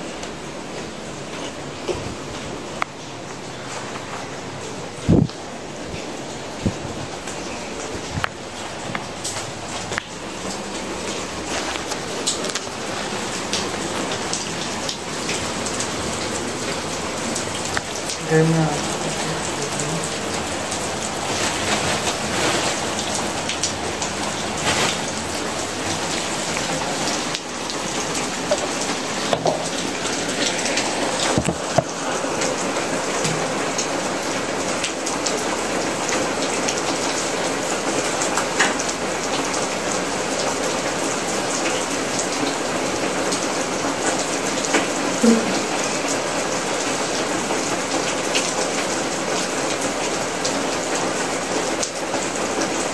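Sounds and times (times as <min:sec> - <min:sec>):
rain falling steadily: 0:00.0 - 0:52.9.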